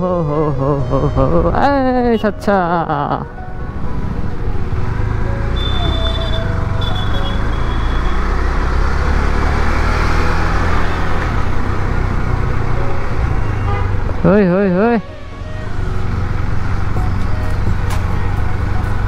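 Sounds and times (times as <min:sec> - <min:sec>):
road and traffic noise: 0:00.0 - 0:19.0.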